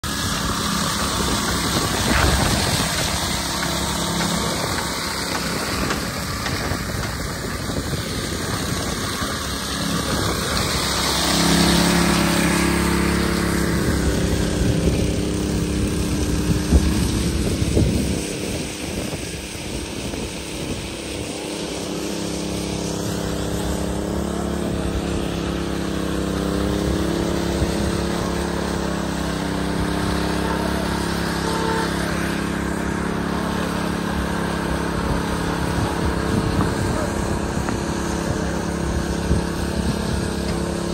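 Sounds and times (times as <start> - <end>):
small petrol engine drone: 0.0 - 40.9.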